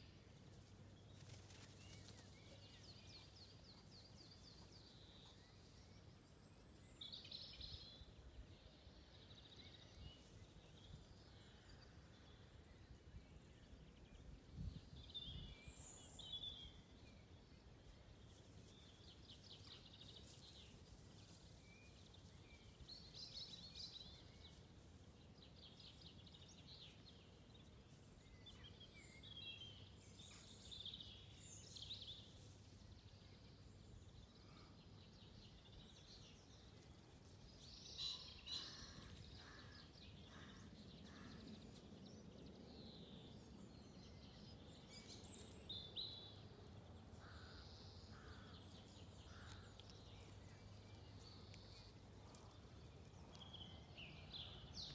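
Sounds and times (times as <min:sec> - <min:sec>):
faint birdsong chirps: 0:00.0 - 0:54.9.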